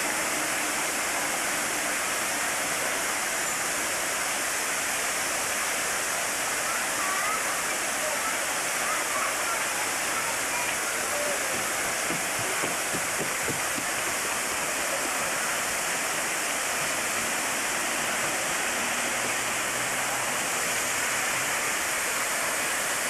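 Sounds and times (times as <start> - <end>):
waterfall splashing into pond: 0.0 - 23.0.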